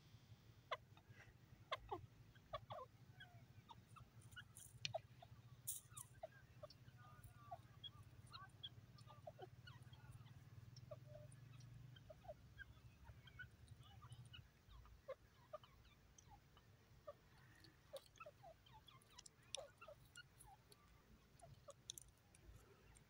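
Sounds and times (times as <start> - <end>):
soft clucks: 0.7 - 23.0
bird chirps: 1.7 - 23.0.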